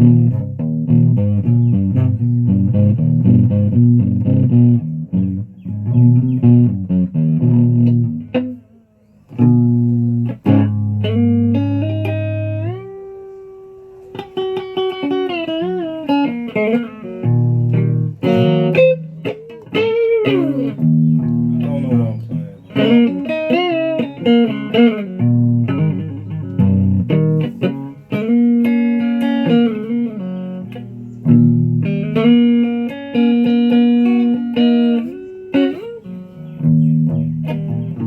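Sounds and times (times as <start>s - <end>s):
guitar picked notes: 0.0s - 38.0s.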